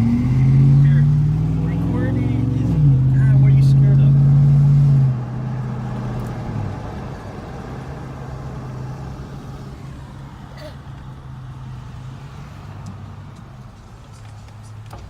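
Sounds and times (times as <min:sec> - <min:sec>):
car engine humming: 0:00.0 - 0:15.0
road noise: 0:00.0 - 0:15.0.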